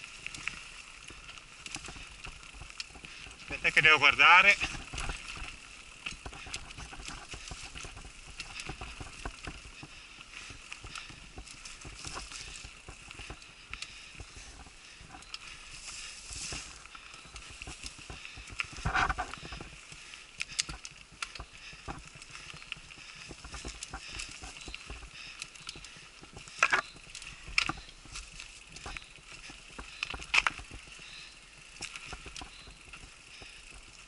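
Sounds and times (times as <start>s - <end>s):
bike chain and frame rattling: 0.0s - 34.0s
bike tyres on dirt trail: 0.0s - 34.0s.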